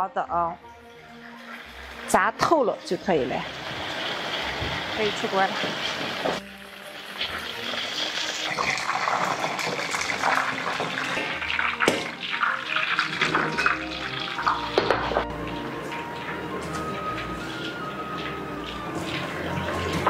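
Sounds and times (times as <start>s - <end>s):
chicken deep-frying in oil: 0.9s - 20.0s.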